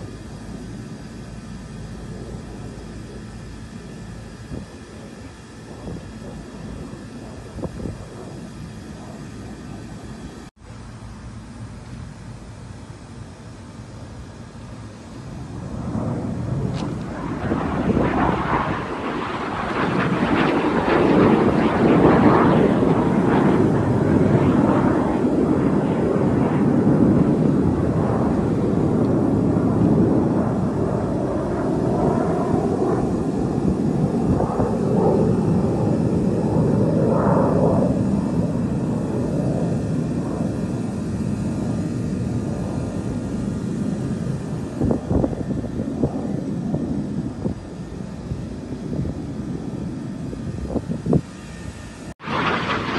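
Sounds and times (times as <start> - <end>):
jet roar overhead: 0.0 - 52.9.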